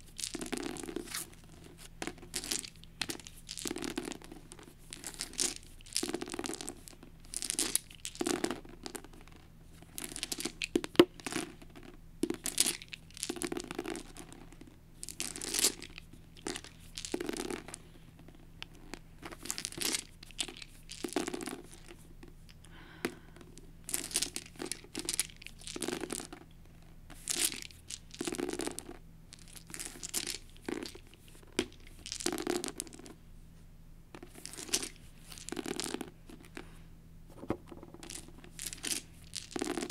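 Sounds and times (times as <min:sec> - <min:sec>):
plastic dice rattling on a book: 0:00.0 - 0:22.3, 0:23.4 - 0:33.2, 0:34.2 - 0:36.7, 0:37.4 - 0:39.9
hand sweeping dice across cover: 0:00.0 - 0:22.4, 0:27.1 - 0:33.2, 0:34.1 - 0:39.9.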